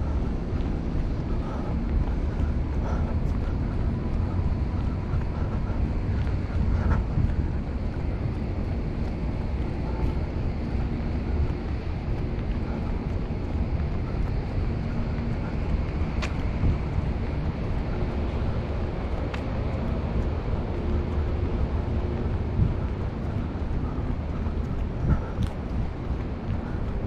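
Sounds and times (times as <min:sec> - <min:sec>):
street traffic: 0:00.0 - 0:27.0
wind on microphone: 0:00.0 - 0:27.0.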